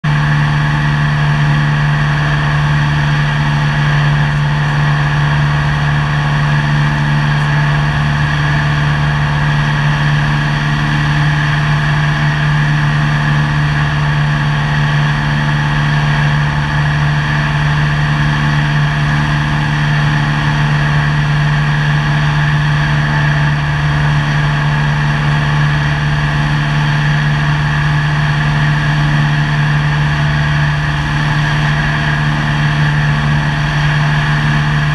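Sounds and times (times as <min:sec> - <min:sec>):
propeller plane engine drone: 0:00.0 - 0:34.9.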